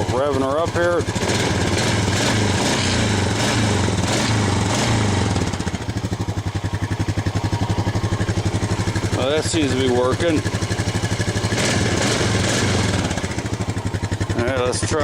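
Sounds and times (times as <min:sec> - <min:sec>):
atv engine revving and idling: 0:00.0 - 0:15.0.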